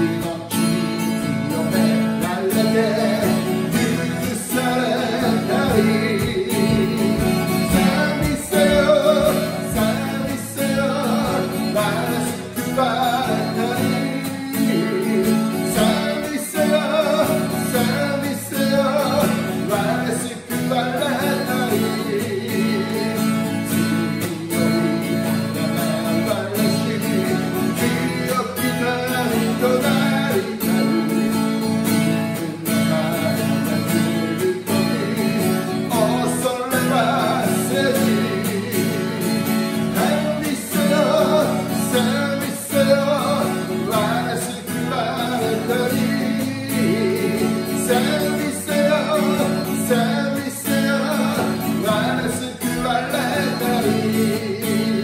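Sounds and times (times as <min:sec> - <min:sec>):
acoustic guitar: 0:00.0 - 0:55.0
man singing a hymn: 0:00.0 - 0:55.0.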